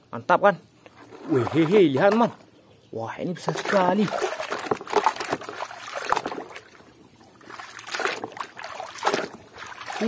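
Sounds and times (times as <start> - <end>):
muddy water splashing in a tub: 1.0 - 10.0.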